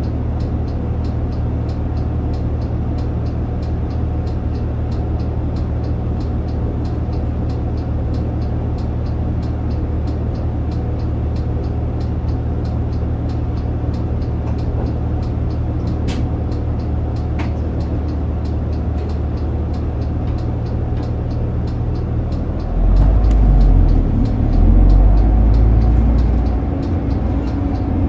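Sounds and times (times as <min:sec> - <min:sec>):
bus engine droning: 0:00.0 - 0:28.0
light regular ticking: 0:00.0 - 0:28.0.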